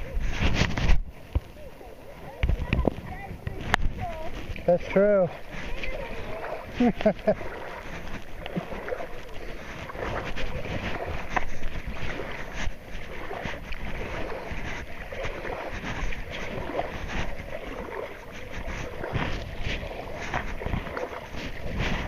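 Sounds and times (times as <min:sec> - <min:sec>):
boat engine rumble: 0:00.0 - 0:22.0
wind on microphone: 0:00.0 - 0:22.0.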